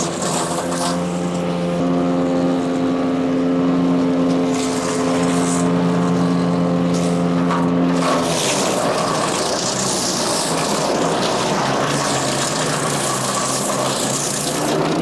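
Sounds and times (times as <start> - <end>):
wood chipper engine running: 0.0 - 15.0.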